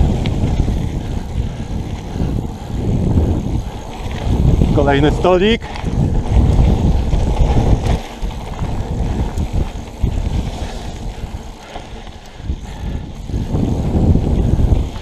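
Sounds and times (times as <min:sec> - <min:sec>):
wind on the microphone: 0:00.0 - 0:15.0.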